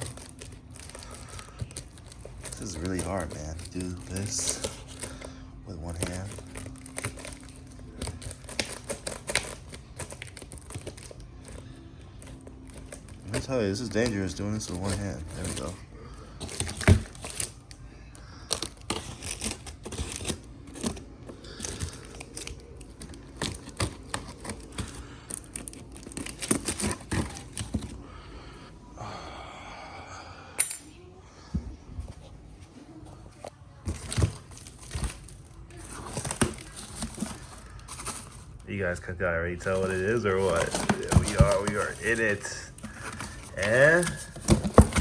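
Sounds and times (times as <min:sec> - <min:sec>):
cardboard tearing: 0:00.0 - 0:28.0, 0:33.8 - 0:38.6, 0:39.6 - 0:45.0.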